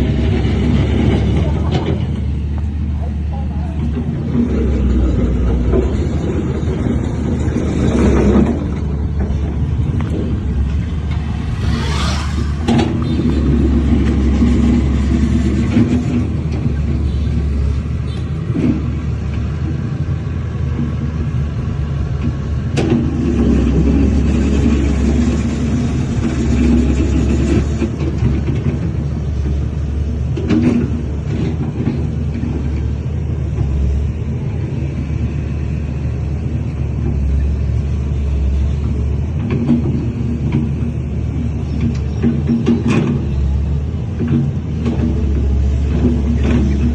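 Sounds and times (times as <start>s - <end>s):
diesel machinery rumbling: 0.0s - 46.9s.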